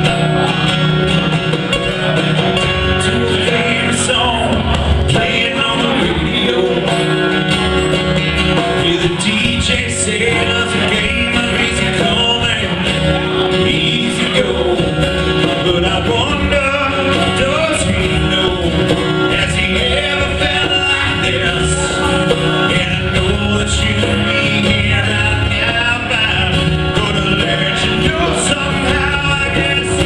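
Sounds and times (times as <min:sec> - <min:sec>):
live band playing country music: 0:00.0 - 0:30.0.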